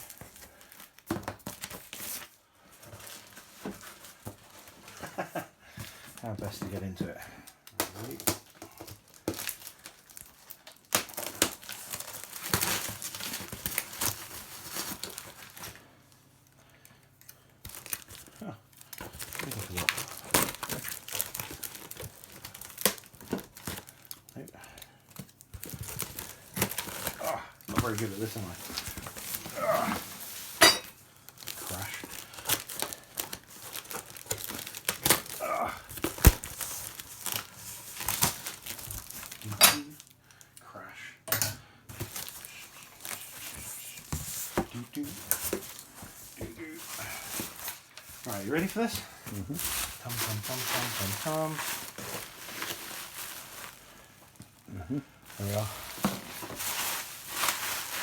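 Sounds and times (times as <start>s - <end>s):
wrapping being torn and crumpled: 0.0s - 5.5s, 6.2s - 40.6s, 41.9s - 58.0s.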